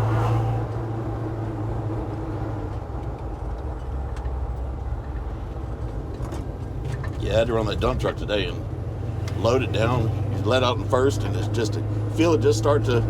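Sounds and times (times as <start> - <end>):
road noise: 0.0 - 13.0
truck engine drone: 0.0 - 13.0.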